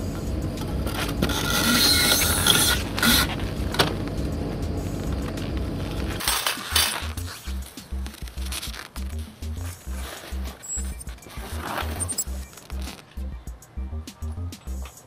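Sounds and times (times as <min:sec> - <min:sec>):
background music with bass: 0:00.0 - 0:15.0.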